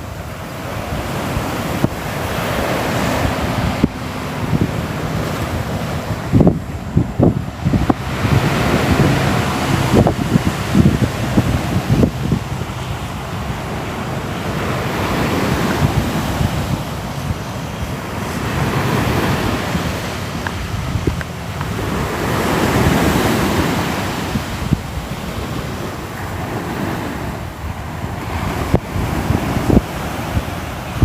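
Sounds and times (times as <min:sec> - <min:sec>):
sea waves washing onto shore: 0:00.0 - 0:31.0.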